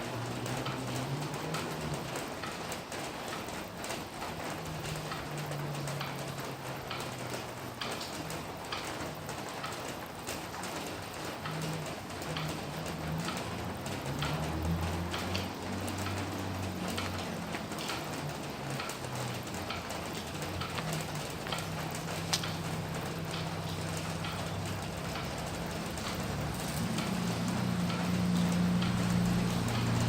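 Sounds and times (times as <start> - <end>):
raindrops ticking on a surface: 0.0 - 30.0
steady rain: 0.0 - 30.0.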